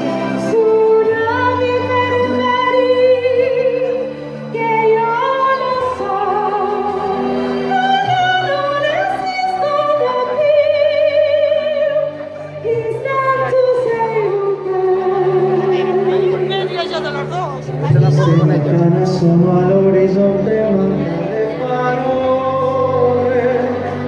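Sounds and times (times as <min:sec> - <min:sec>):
instrumental backing music: 0:00.0 - 0:24.0
woman singing into microphone: 0:00.0 - 0:24.0.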